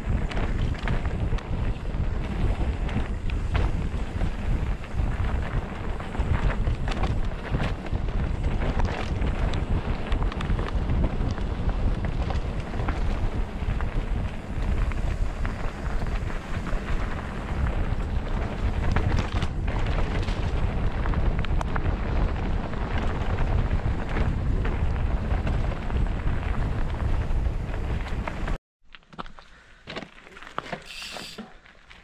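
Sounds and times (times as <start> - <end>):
wind buffeting microphone: 0.0 - 28.6
bike clicks and rattles: 0.0 - 32.0
bike tyres rumbling on dirt: 0.0 - 32.0.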